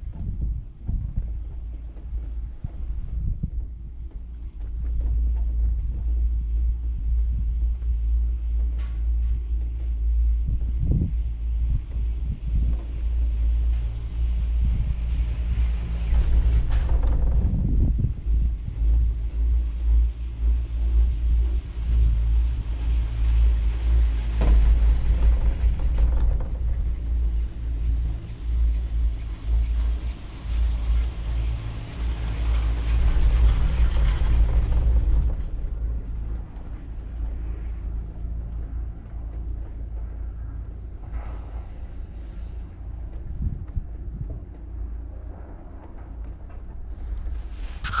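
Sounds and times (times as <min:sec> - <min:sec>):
faint steady hum: 0:00.0 - 0:48.0
wind buffeting microphone: 0:00.0 - 0:48.0.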